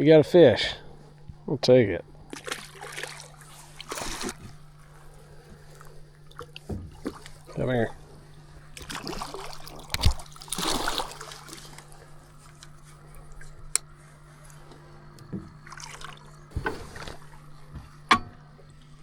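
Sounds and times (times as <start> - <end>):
steady low hum: 0.0 - 19.0
water splashing and trickling: 2.0 - 19.0.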